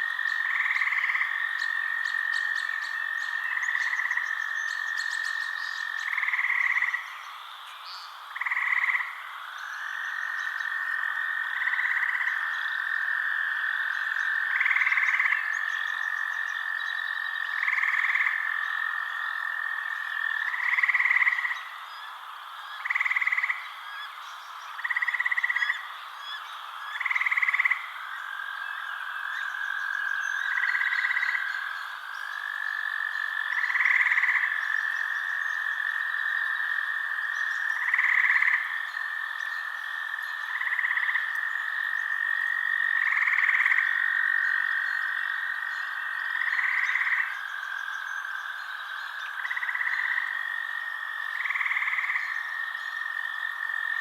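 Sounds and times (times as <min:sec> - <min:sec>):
frog chorus: 0:00.0 - 0:54.0
frogs calling: 0:00.0 - 0:54.0.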